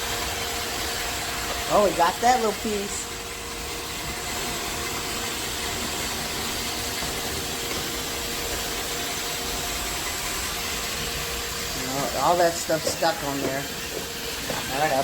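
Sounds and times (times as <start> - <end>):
robot vacuum running: 0.0 - 15.0.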